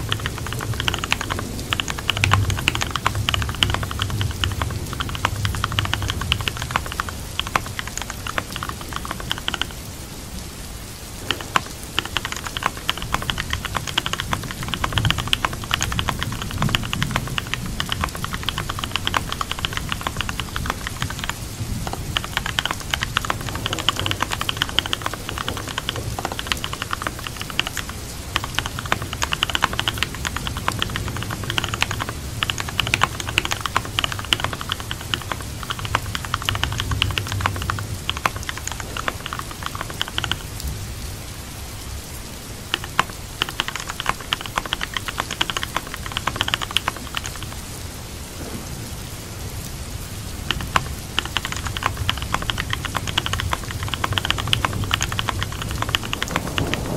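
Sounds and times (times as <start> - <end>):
typing on keyboard: 0.0 - 10.0, 11.0 - 41.2, 42.5 - 47.9, 50.3 - 56.9
steady rainfall: 0.0 - 56.9.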